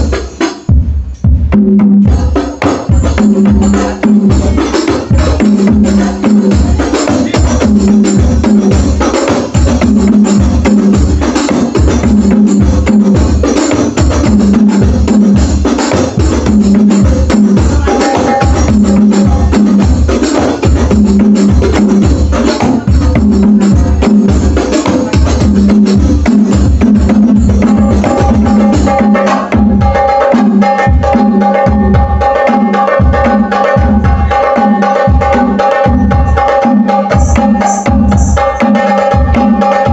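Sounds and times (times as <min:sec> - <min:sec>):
loud music with drum beat: 0:00.0 - 0:39.9.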